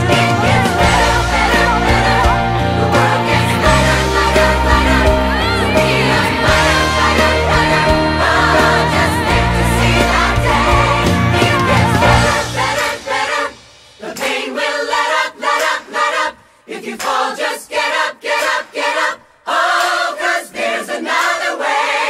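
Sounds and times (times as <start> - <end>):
voices singing unaccompanied: 0.0 - 22.0.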